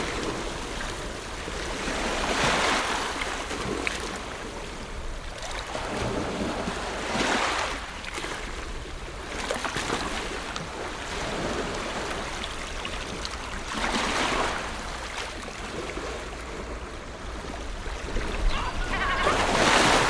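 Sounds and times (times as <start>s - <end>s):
large waves breaking: 0.0s - 20.0s
ocean waves washing onto shore: 0.0s - 20.0s.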